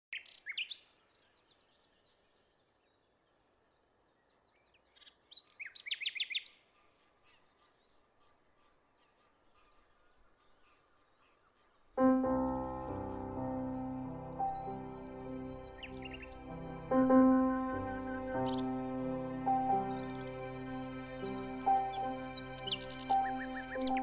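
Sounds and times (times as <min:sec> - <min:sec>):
birds chirping rapidly: 0:00.1 - 0:24.0.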